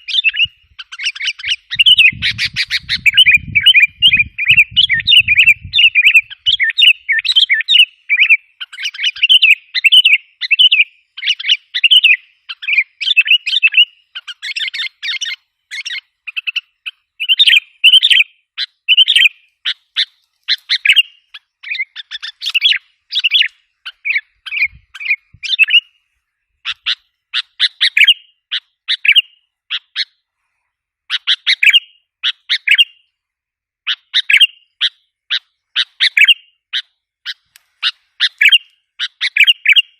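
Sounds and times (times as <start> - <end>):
bulbul chattering calls: 0.0 - 26.0, 26.6 - 30.2, 31.1 - 33.1, 33.8 - 39.9.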